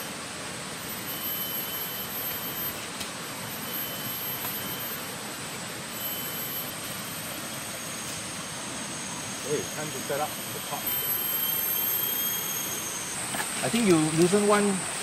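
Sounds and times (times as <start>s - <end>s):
high thin insect drone: 0.0s - 15.0s
steady wash of noise: 0.0s - 15.0s
thin whistle-like tone: 0.8s - 5.2s, 5.9s - 14.8s.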